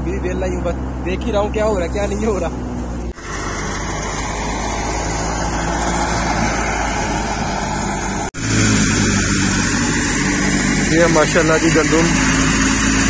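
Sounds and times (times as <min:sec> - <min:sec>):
thresher running: 0:00.9 - 0:13.0.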